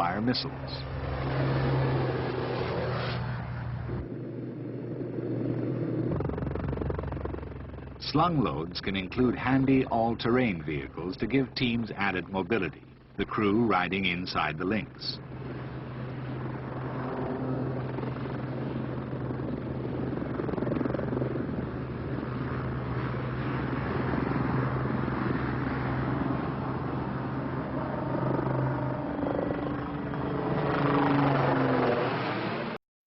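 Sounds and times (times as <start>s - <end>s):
helicopter rotor and turbine: 0.0s - 32.8s.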